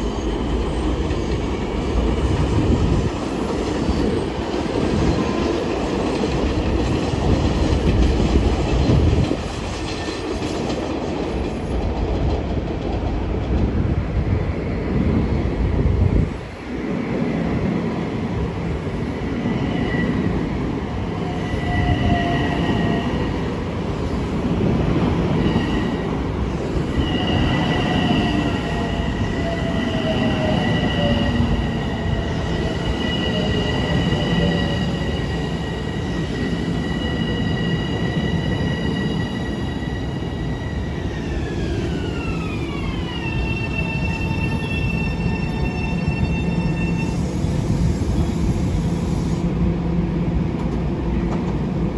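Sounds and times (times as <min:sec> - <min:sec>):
train wheels squealing on rails: 0:00.0 - 0:11.6, 0:18.8 - 0:50.1
train track rumble: 0:00.0 - 0:51.9.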